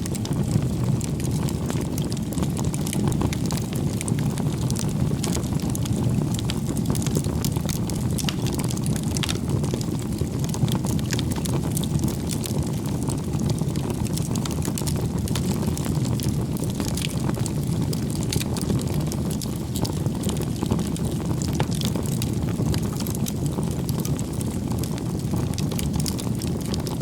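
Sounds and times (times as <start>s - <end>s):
bonfire flames rushing: 0.0s - 27.0s
burning wood crackling and popping: 0.0s - 27.0s.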